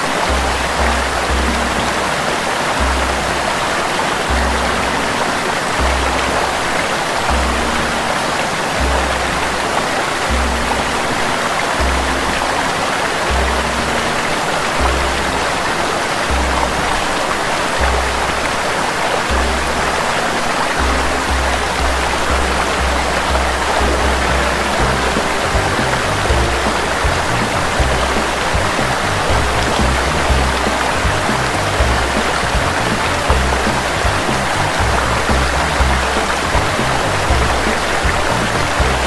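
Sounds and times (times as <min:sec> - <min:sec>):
faint held notes: 0:00.0 - 0:39.0
soft deep bass notes: 0:00.0 - 0:39.0
waterfall rushing over rocks: 0:00.0 - 0:39.0.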